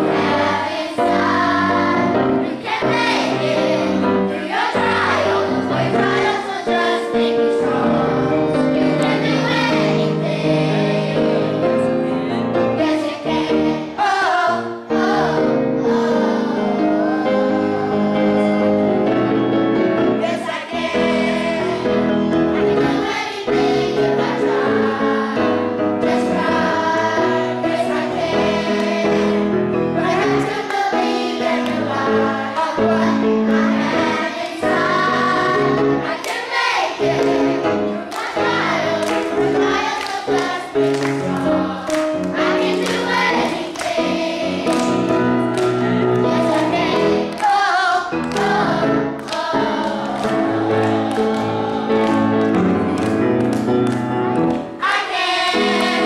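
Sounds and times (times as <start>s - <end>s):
children's chorus singing: 0.0s - 12.0s, 12.6s - 19.1s, 20.1s - 53.5s, 54.5s - 56.0s
piano accompaniment: 0.0s - 56.0s.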